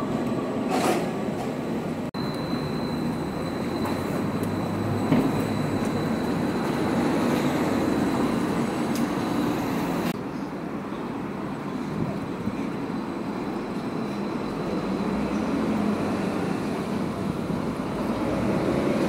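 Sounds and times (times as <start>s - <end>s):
street noise: 0.0s - 19.0s
trolleybus passing: 0.0s - 19.0s.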